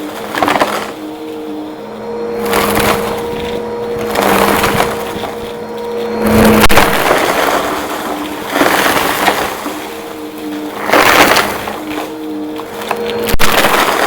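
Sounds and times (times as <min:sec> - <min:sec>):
debris crackling through vacuum: 0:00.0 - 0:14.0
vacuum cleaner motor hum: 0:00.0 - 0:14.0.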